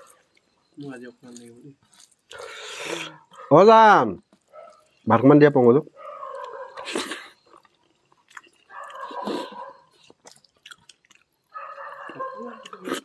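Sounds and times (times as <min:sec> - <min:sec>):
man chewing food: 0:00.0 - 0:03.5, 0:04.2 - 0:13.0.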